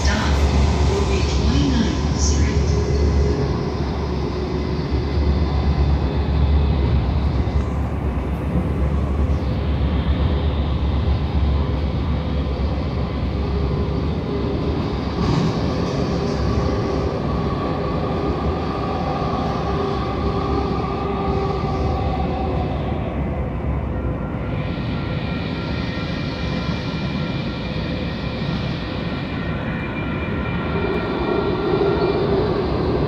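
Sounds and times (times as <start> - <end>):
constant hum: 0.0 - 33.0
steady whine: 0.0 - 33.0
train wheels rumbling on rails: 0.0 - 33.0.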